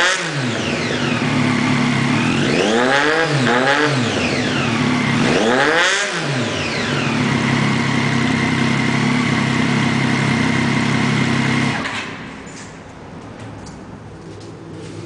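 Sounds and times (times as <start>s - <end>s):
motorcycle engine revving and idling: 0.0s - 12.3s.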